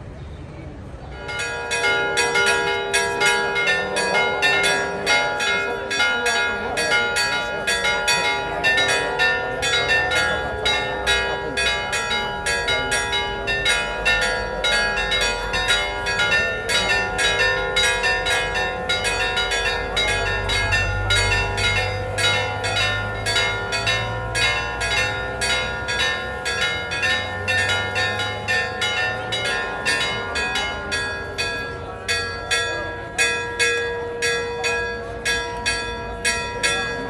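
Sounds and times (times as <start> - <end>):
church bells ringing: 1.0 - 37.0.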